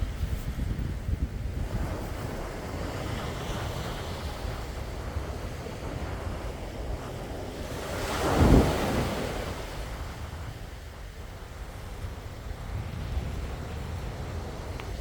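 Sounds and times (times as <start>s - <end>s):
wind buffeting microphone: 0.0s - 15.0s
sea waves breaking: 1.6s - 15.0s.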